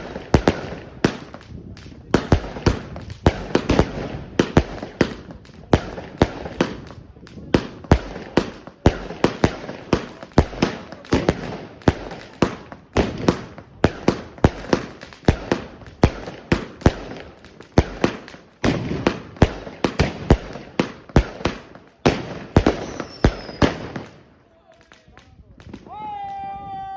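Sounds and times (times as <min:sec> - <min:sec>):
firework bangs: 0:00.0 - 0:26.0
firework crackling: 0:00.0 - 0:26.0.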